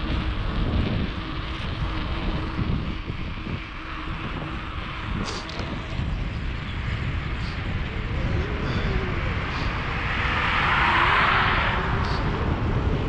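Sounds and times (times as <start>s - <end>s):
low rumble of passing traffic: 0.0s - 13.0s
rush of noise: 0.0s - 13.0s.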